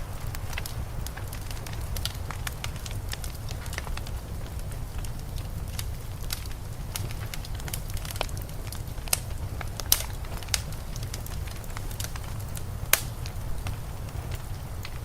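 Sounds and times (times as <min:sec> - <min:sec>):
low rumble of blizzard wind: 0:00.0 - 0:15.0
wood fire crackling: 0:00.0 - 0:15.0.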